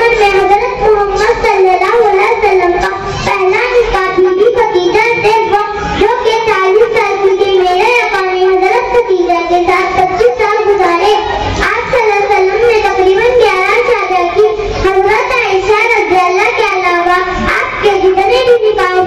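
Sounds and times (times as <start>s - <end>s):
girl singing into a microphone: 0.0s - 19.0s.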